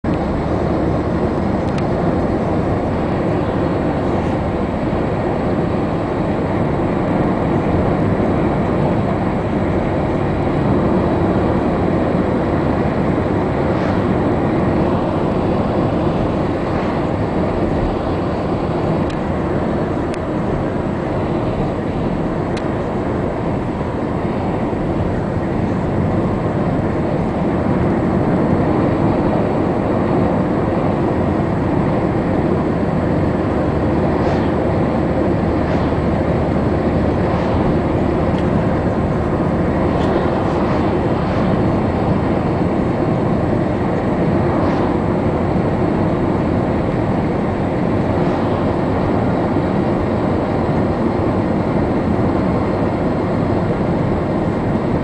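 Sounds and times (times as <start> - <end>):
vehicle road noise from inside: 0.1 - 55.0.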